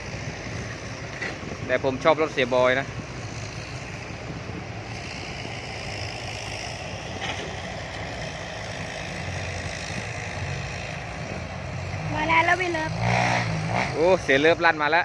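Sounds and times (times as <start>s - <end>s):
diesel truck engine humming: 0.0s - 14.9s.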